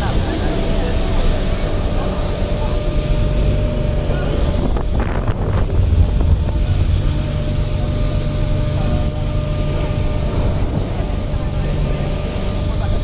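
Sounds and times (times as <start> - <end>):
ferry engines humming: 0.0 - 13.0
wind on microphone: 0.0 - 13.0.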